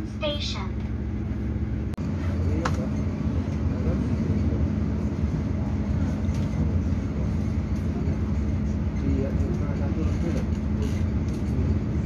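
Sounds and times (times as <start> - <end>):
constant hum: 0.0 - 12.0
train rumbling: 0.0 - 12.0.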